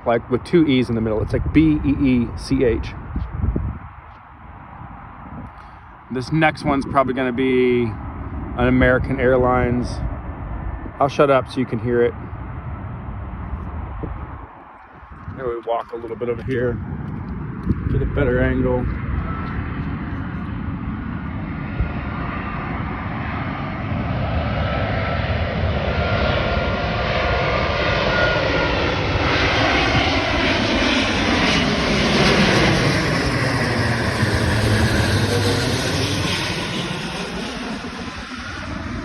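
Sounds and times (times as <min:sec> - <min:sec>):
jet airliner engines passing: 0:00.0 - 0:39.0.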